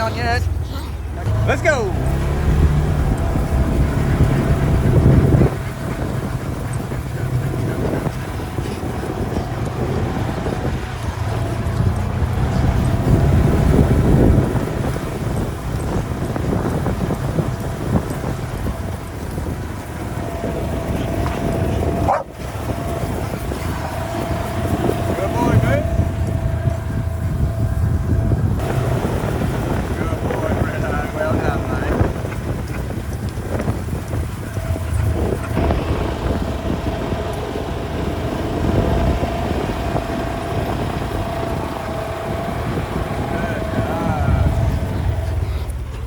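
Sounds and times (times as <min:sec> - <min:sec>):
vehicle engine rumble and whine: 0:00.0 - 0:46.0.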